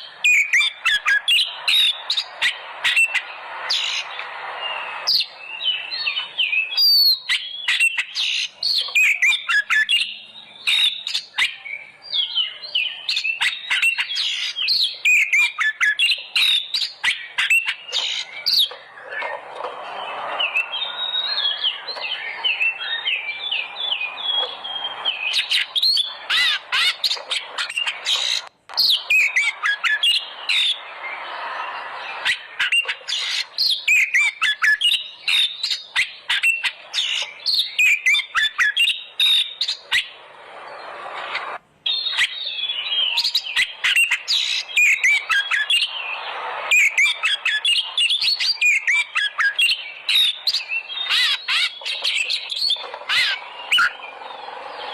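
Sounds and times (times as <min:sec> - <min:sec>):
songbird singing rapid whistles: 0:00.0 - 0:19.3, 0:19.9 - 0:54.9.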